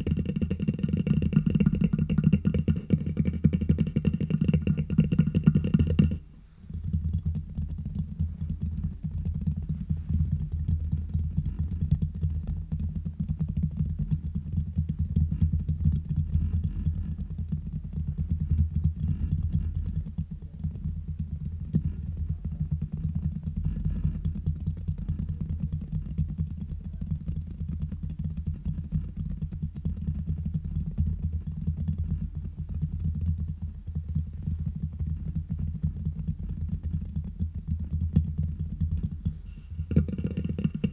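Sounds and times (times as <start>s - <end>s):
fingers tapping on microphone: 0.0s - 30.2s, 31.0s - 40.9s.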